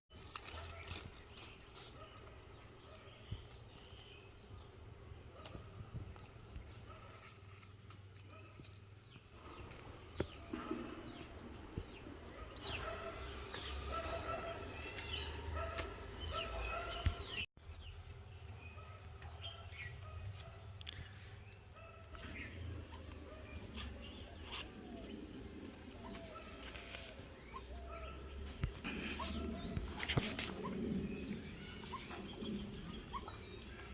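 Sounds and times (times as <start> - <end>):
birds chirping: 0.1 - 33.9.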